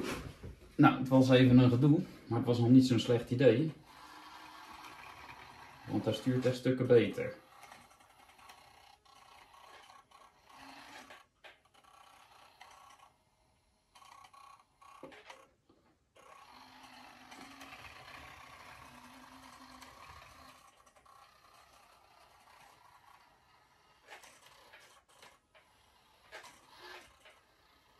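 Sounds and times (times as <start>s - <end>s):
faint whir of small electric motor: 0.0s - 27.9s.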